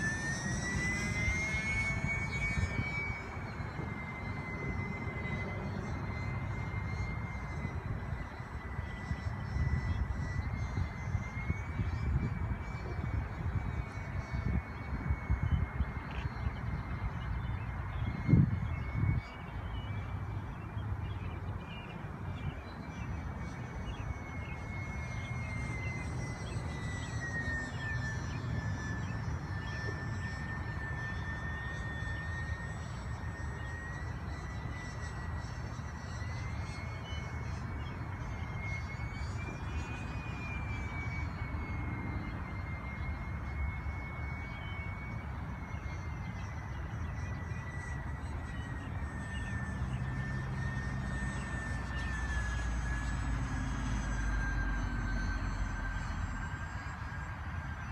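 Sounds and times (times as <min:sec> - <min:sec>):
model airplane motors whining: 0:00.0 - 0:57.9.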